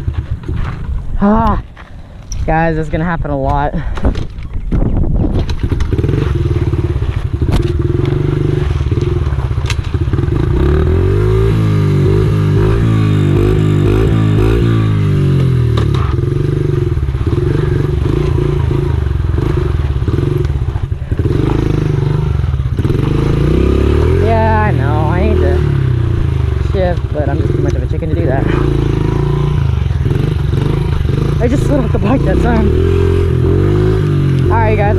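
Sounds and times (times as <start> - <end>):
motorcycle engine revving: 0.0 - 3.2, 5.2 - 34.9.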